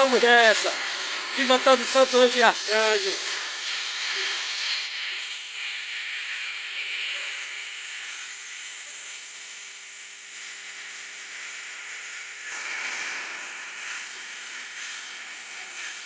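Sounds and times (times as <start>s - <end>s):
bonfire burning with a hiss: 0.0s - 16.0s.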